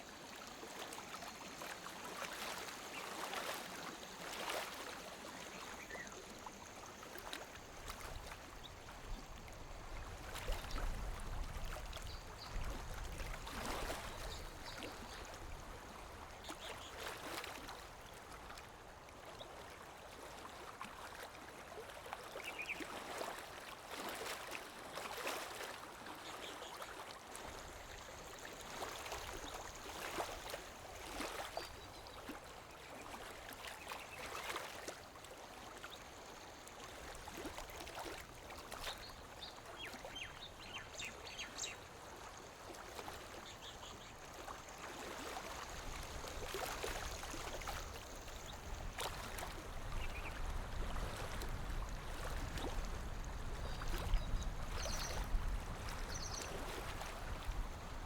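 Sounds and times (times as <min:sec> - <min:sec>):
small waves lapping against shore: 0:00.0 - 0:58.0.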